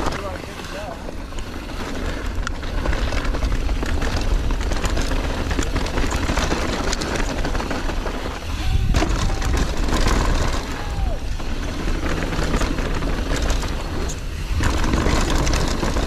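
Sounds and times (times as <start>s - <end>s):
bike rattling and clicking: 0.0s - 16.0s
bike tyre noise: 0.0s - 16.0s
wind rumble on microphone: 1.0s - 16.0s.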